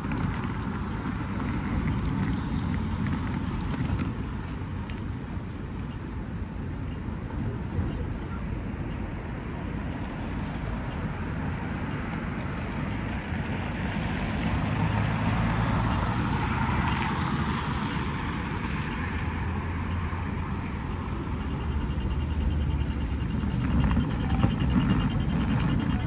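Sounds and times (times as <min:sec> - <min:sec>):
traffic passing: 0:00.0 - 0:26.0.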